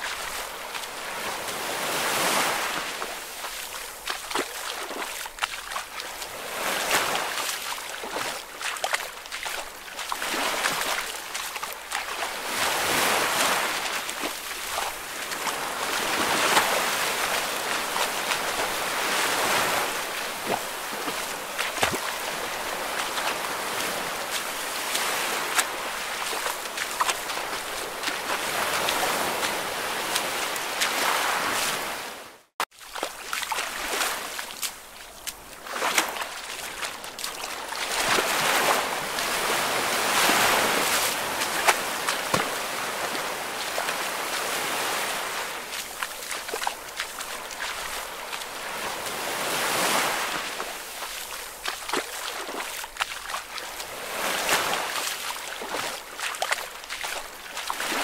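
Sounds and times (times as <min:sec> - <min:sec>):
waves washing in and receding: 0:00.0 - 0:58.0.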